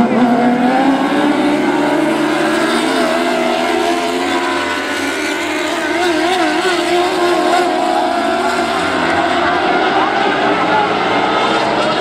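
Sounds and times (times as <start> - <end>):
race car engines at high revs: 0.0 - 12.0.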